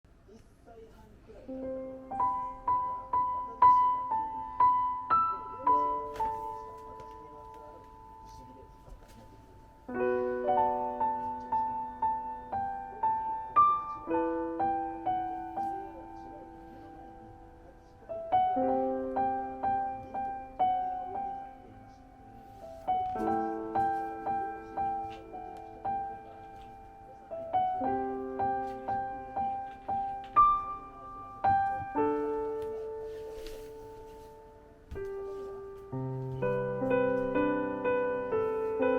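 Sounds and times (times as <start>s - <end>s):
gentle piano music: 1.0s - 38.9s.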